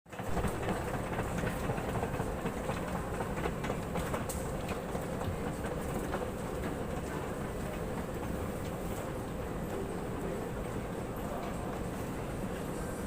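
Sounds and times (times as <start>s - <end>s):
rumbling terminal background noise: 0.1s - 13.0s.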